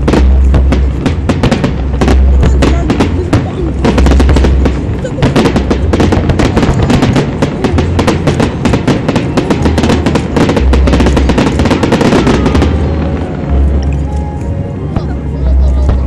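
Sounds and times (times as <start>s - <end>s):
deep low rumble: 0.0s - 16.0s
fireworks crackling: 0.0s - 16.0s.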